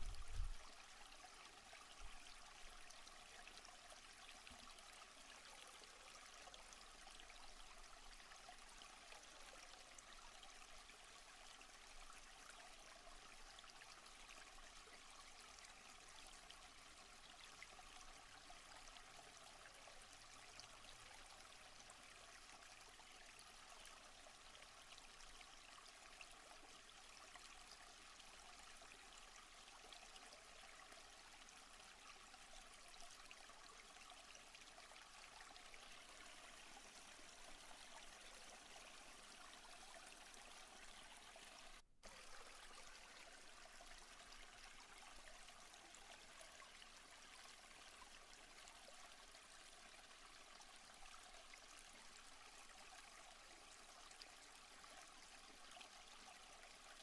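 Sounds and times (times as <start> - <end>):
stream running water: 0.0 - 57.0.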